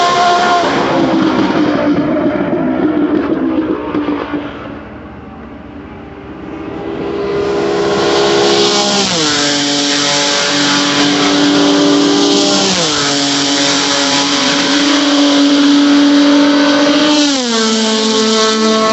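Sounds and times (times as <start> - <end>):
racing car engine shifting gears: 0.0 - 5.0, 6.2 - 18.9.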